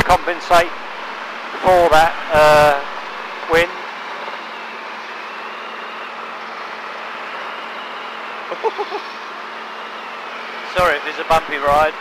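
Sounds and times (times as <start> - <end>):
helicopter engine and rotors droning: 0.0 - 12.0.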